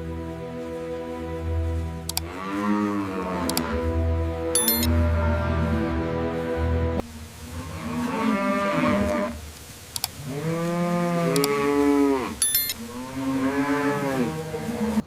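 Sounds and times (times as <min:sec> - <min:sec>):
cattle mooing: 0:00.2 - 0:09.5, 0:10.2 - 0:15.0.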